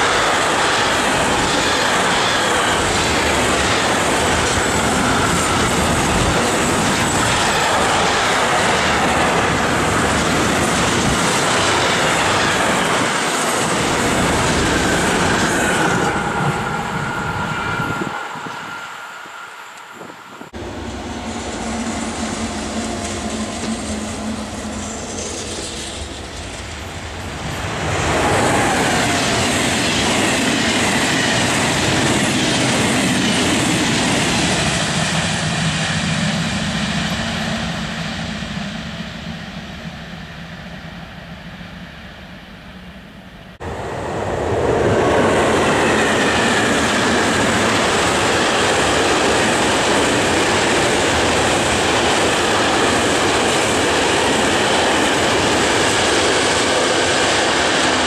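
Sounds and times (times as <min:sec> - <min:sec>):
freight train wheels on rails: 0:00.0 - 0:58.0
passing train running noise: 0:00.0 - 0:58.0.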